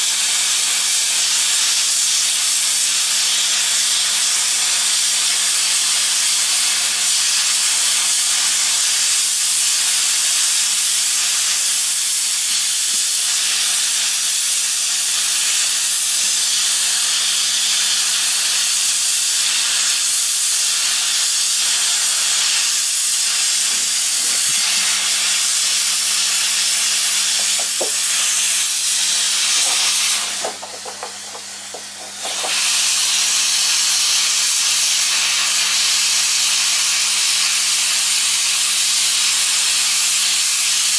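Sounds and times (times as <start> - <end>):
hot air gun hissing: 0.0 - 40.9.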